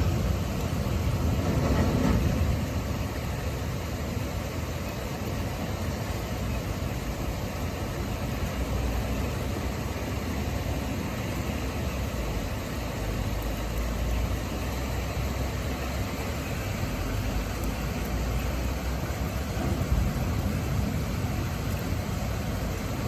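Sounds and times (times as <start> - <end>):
heavy rain and wind hiss: 0.0 - 23.0.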